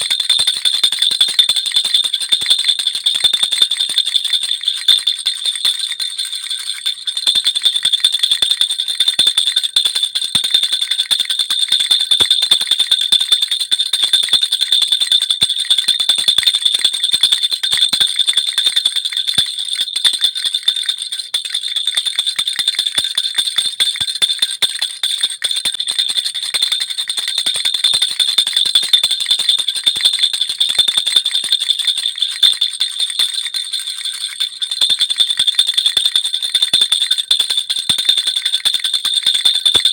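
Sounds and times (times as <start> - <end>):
baby rattle bells jingling: 0.0 - 39.9.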